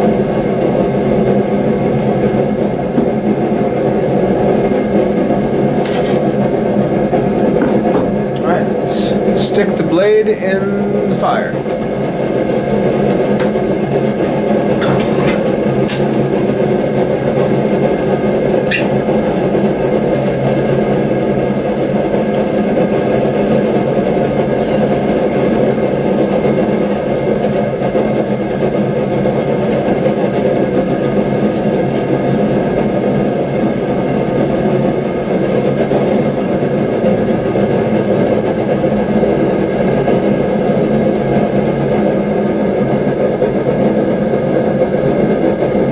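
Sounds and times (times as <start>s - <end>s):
forge humming: 0.0s - 45.9s.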